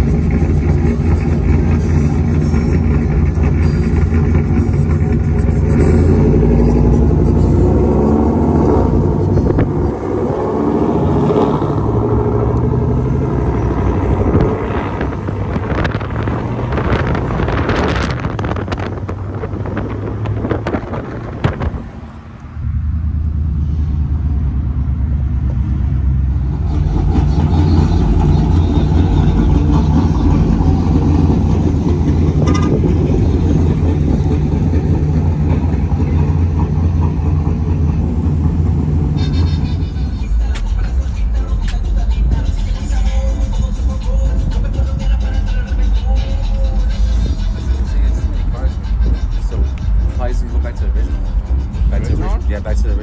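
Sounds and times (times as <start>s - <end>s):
car road and engine noise: 0.0s - 53.0s
truck engines running at low speed: 0.0s - 53.0s.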